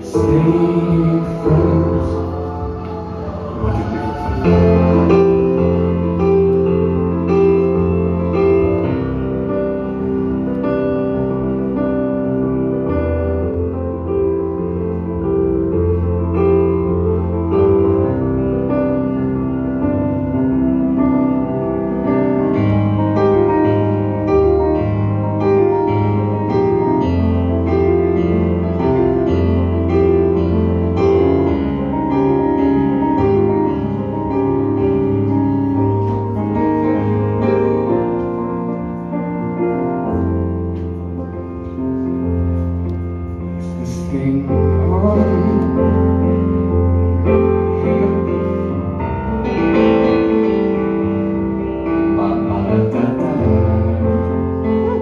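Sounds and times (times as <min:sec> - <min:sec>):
electronic piano chords: 0:00.0 - 0:55.0.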